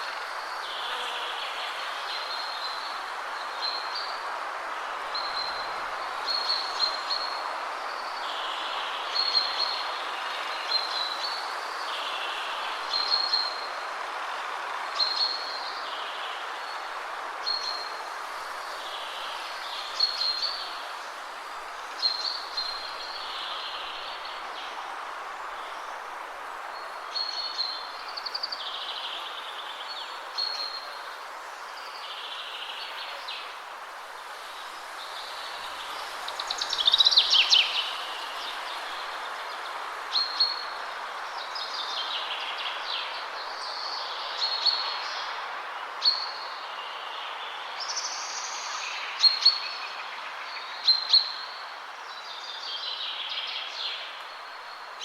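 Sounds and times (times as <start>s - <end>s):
wind in trees: 0.0s - 55.0s.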